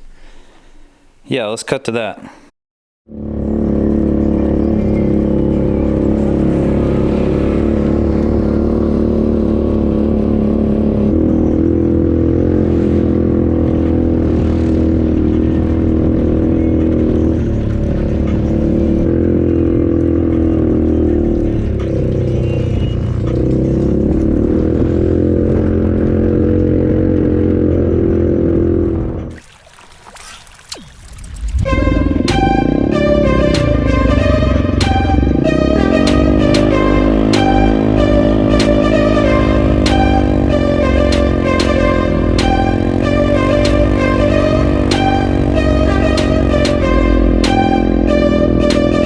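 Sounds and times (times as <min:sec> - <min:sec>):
loud engine revving: 0:03.1 - 0:29.3, 0:31.6 - 0:49.0.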